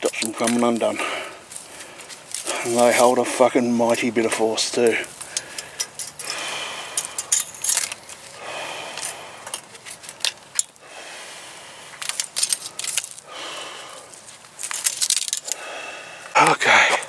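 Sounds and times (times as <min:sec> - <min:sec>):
barbed wire clicking and scraping: 0:00.0 - 0:10.9, 0:11.8 - 0:15.7.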